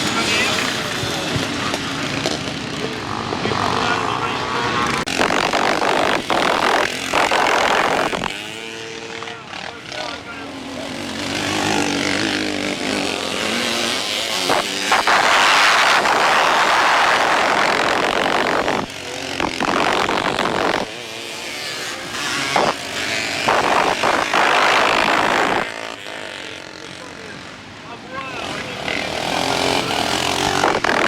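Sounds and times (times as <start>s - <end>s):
motocross motorcycles revving: 0.0s - 31.0s.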